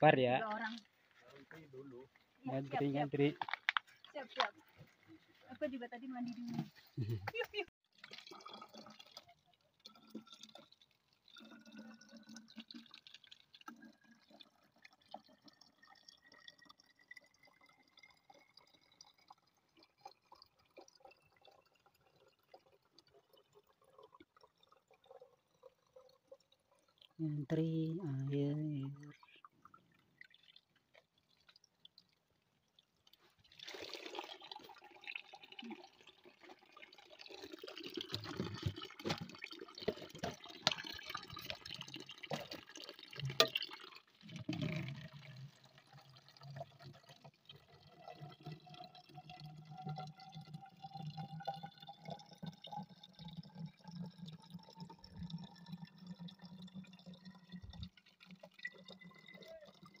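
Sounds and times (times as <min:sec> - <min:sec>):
water pouring into a bottle: 0:00.1 - 1:00.0.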